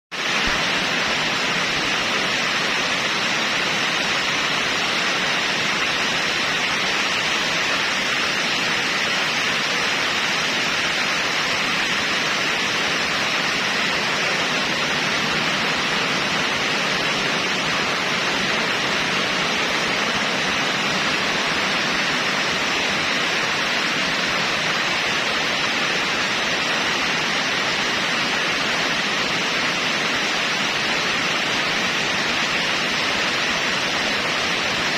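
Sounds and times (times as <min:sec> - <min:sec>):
steady static hiss: 0:00.2 - 0:34.9.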